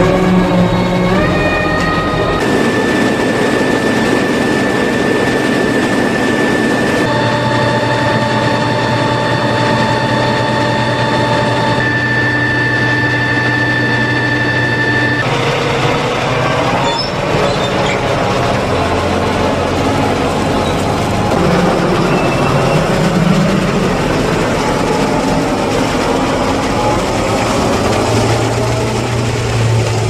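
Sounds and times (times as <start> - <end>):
high whines: 0.0 - 30.0
tractor diesel engine running: 0.0 - 30.0.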